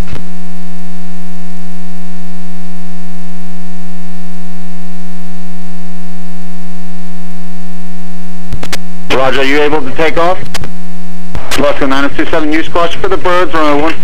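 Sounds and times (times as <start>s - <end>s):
loud buzzy electrical hum: 0.0s - 14.0s.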